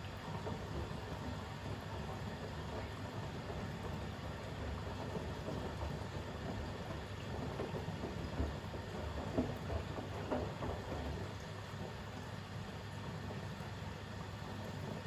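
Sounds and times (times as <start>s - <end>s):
washing machine drum humming: 0.0s - 15.0s
water sloshing in washing machine: 0.0s - 15.0s.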